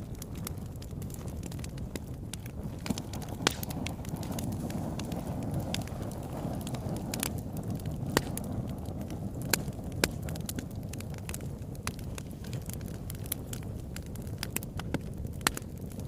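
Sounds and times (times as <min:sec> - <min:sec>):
fire popping sharply: 0:00.0 - 0:16.0
wood fire crackling: 0:00.0 - 0:16.0.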